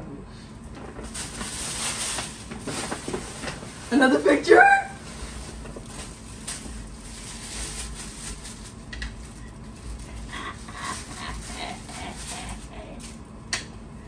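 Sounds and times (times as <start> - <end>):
tissue paper rustling: 0.8 - 13.2.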